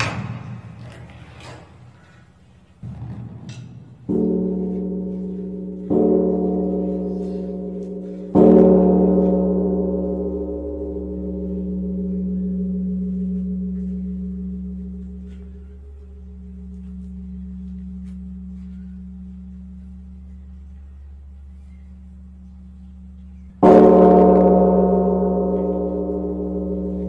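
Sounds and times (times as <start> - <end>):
gong ringing: 2.8 - 27.0.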